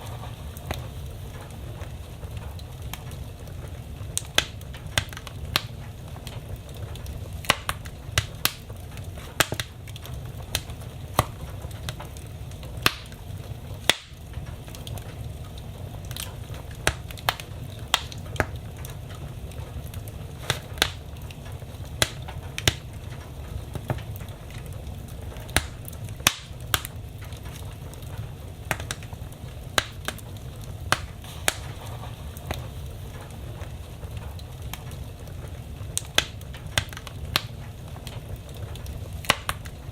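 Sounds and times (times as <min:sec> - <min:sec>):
fire crackles and pops: 0:00.0 - 0:39.9
fire flames rumbling: 0:00.0 - 0:39.9.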